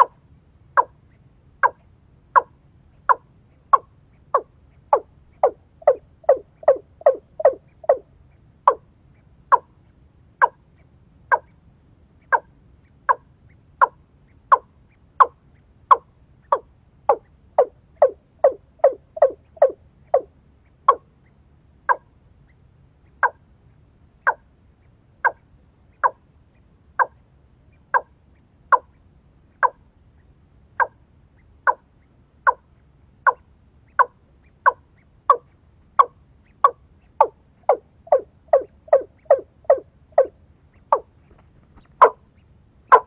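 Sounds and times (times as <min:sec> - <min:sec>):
bird calling: 0:00.0 - 0:00.2, 0:00.8 - 0:09.7, 0:11.3 - 0:11.6, 0:12.2 - 0:22.1, 0:25.2 - 0:28.1, 0:29.6 - 0:43.0.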